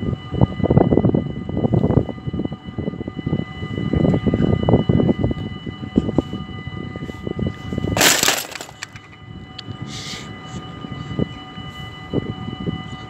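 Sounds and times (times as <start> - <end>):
level-crossing warning bells: 0.0 - 13.0.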